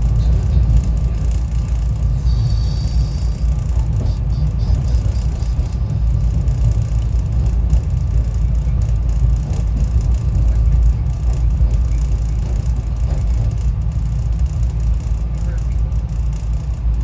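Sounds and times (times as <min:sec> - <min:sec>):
train rumbling from inside: 0:00.0 - 0:17.0.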